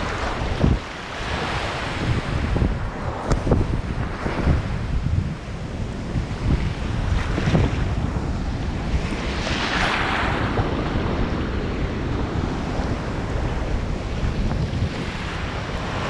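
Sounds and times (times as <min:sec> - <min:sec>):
sea surf washing over sand: 0:00.0 - 0:16.0
wind buffeting microphone: 0:00.0 - 0:16.0.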